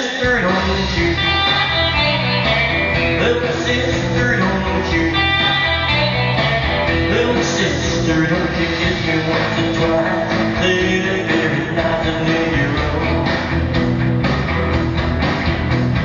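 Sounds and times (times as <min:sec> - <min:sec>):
live rock and roll music: 0:00.0 - 0:16.0.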